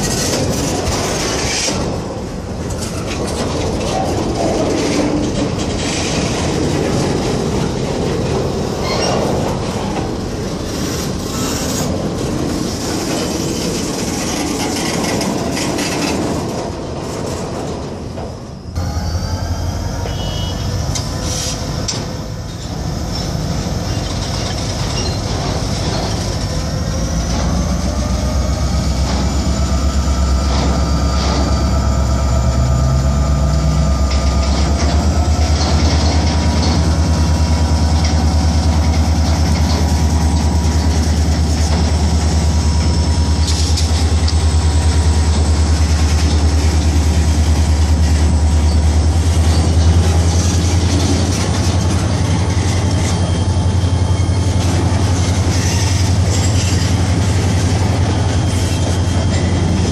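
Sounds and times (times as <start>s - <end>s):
train wheels clacking over rail joints: 0.0s - 18.6s, 20.0s - 59.9s
wheels squealing and creaking: 2.7s - 59.9s.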